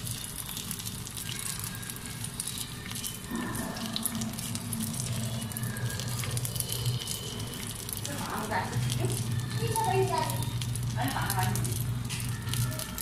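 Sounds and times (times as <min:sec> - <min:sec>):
bread sizzling in a pan: 0:00.0 - 0:13.0
low steady hum: 0:00.0 - 0:13.0.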